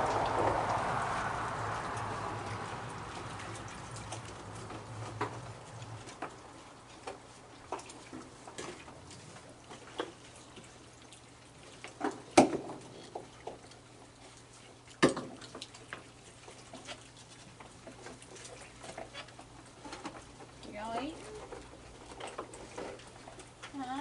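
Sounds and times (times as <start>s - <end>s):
small water splashes: 0.0s - 24.0s.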